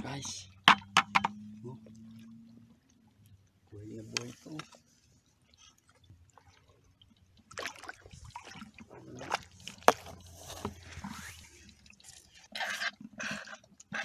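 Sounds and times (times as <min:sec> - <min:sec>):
water sloshing in bucket: 0:00.0 - 0:14.0.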